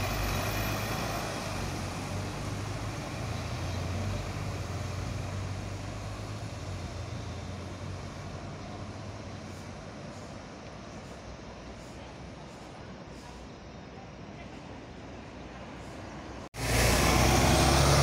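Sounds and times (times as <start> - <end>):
vehicle engines droning: 0.0 - 18.0.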